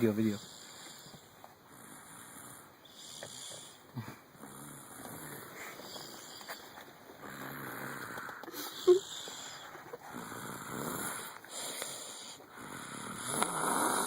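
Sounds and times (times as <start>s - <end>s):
child snoring: 0.3s - 6.6s, 7.2s - 14.0s.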